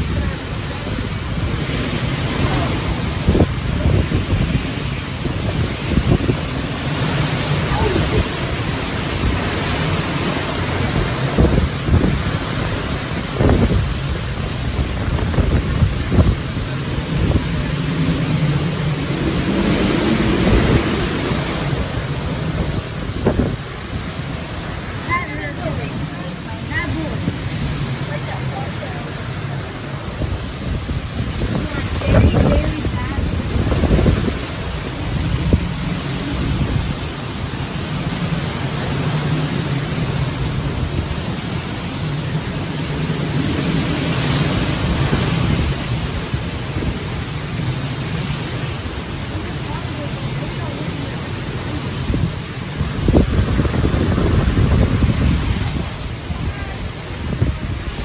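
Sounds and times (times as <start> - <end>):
hurricane wind and rain: 0.0 - 58.0.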